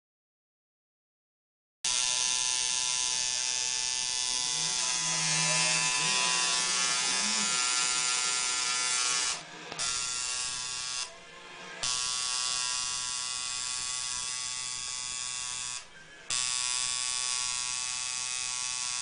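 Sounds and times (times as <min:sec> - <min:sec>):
tattoo machine buzzing: 0:01.8 - 0:11.2, 0:11.8 - 0:19.0.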